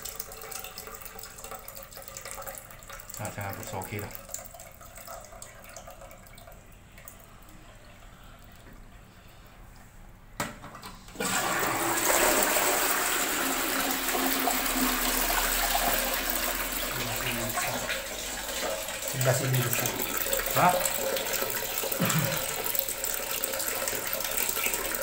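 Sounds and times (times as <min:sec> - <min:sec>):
toilet water rushing: 0:00.0 - 0:07.5, 0:11.0 - 0:25.0.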